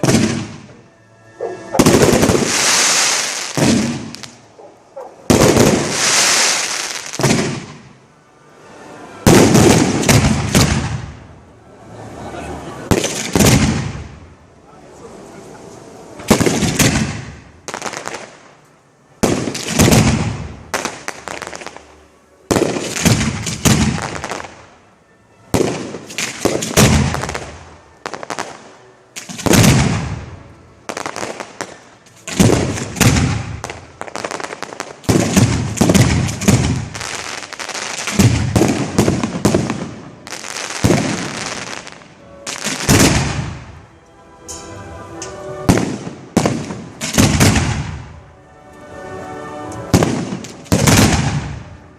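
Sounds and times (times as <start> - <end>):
fireworks bursting with bangs: 0.0 - 0.8, 1.6 - 4.6, 5.2 - 8.1, 9.2 - 11.4, 12.8 - 14.4, 16.1 - 18.6, 19.2 - 24.8, 25.5 - 43.8, 45.4 - 48.2, 49.8 - 51.9
fireworks rumble and crackle: 0.0 - 51.9.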